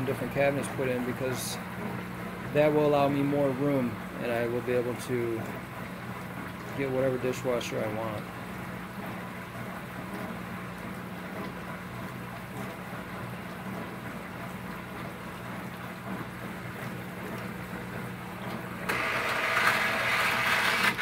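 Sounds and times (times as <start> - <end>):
water spraying inside dishwasher: 0.0 - 1.8, 2.5 - 21.0
dishwasher pump humming: 0.0 - 21.0.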